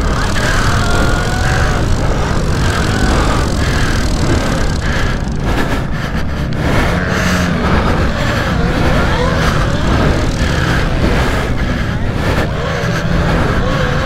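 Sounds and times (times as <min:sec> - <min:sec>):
pit bike engines revving: 0:00.0 - 0:14.0.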